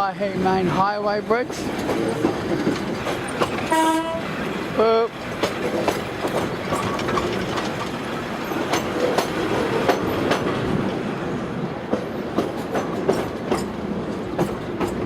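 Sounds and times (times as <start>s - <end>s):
train carriage rumble: 0.0s - 15.0s
wheels clicking over rail joints: 0.7s - 11.0s, 11.9s - 15.0s.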